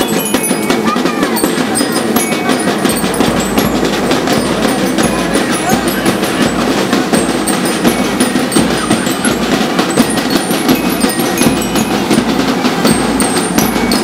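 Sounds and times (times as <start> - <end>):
crowd and street noise: 0.0 - 14.0
high ringing metallic percussion: 0.0 - 14.0
marching band music: 0.0 - 14.0.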